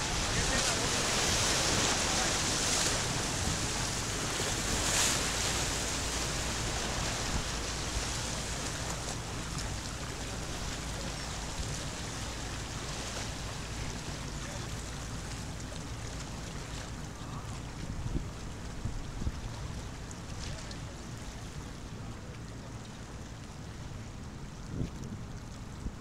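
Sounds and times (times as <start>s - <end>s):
waves splashing against boulders: 0.0s - 22.5s.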